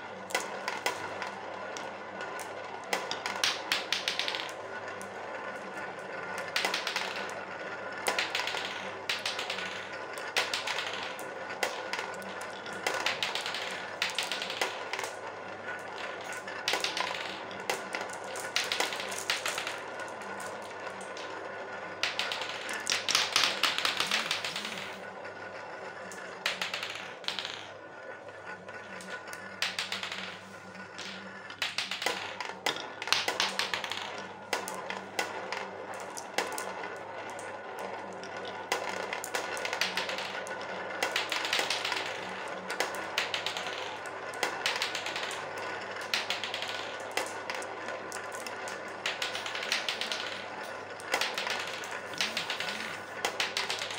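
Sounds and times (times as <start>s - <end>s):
marbles rolling in plastic bowl: 0.0s - 53.9s.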